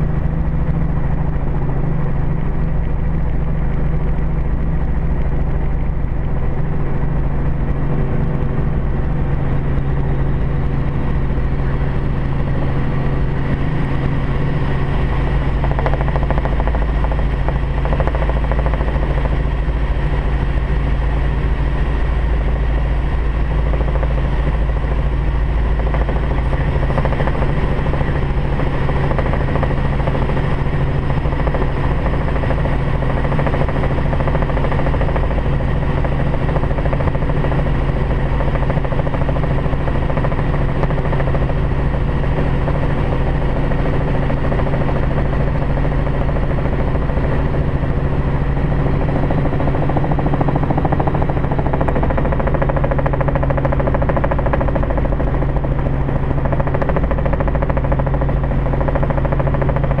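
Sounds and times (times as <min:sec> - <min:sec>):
small plane engine in flight: 0:00.0 - 1:00.0.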